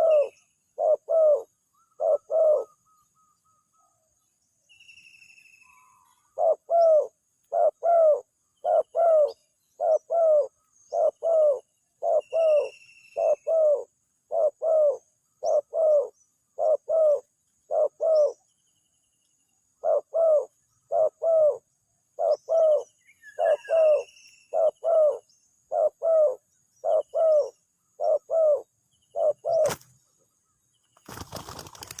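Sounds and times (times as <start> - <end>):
dove cooing: 0.0 - 3.9, 5.8 - 18.4, 19.8 - 29.8
small birds chirping: 0.0 - 32.0.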